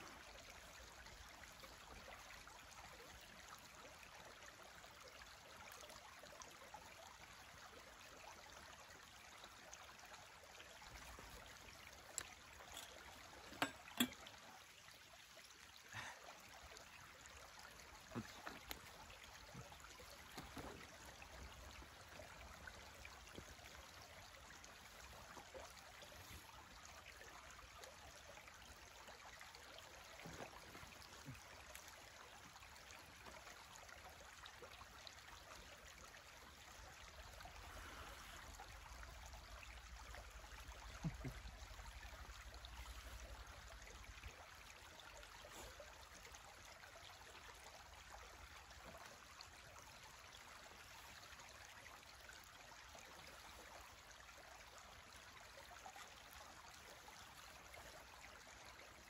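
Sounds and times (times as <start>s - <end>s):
shallow stream babbling: 0.0s - 59.0s.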